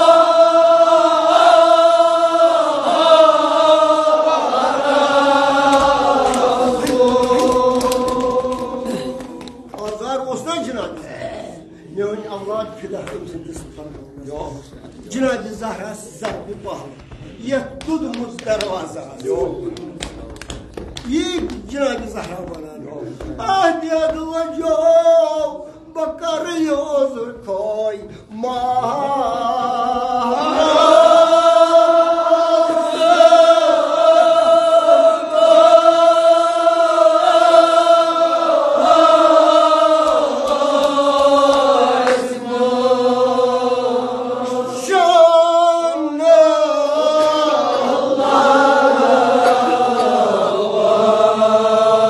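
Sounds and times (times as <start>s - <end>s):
men chanting in unison: 0.0s - 13.0s, 21.1s - 52.0s.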